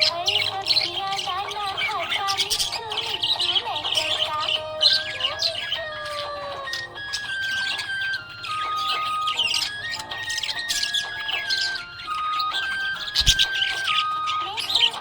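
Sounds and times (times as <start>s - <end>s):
background music: 0.0s - 15.0s
budgerigars chirping and warbling: 0.0s - 15.0s.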